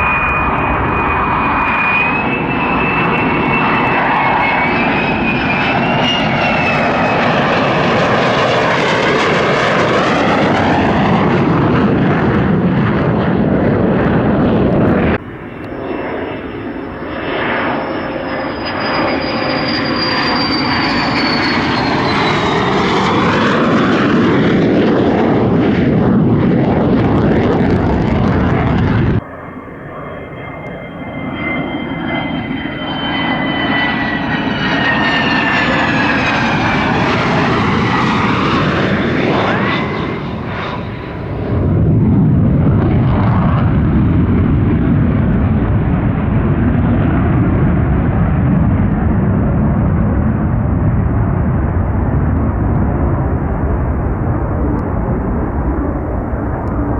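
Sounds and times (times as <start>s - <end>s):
jet passing overhead: 0.0s - 56.9s.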